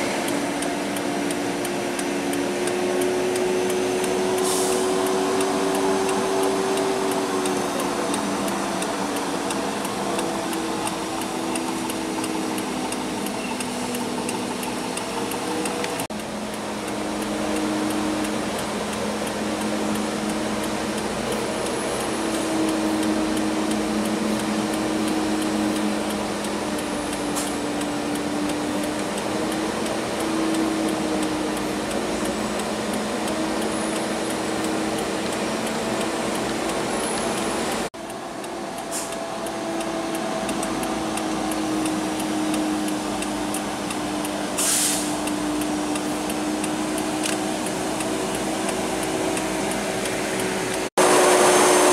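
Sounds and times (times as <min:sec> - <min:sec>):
road noise: 0:00.0 - 0:51.9
vehicle engine drone: 0:00.0 - 0:51.9.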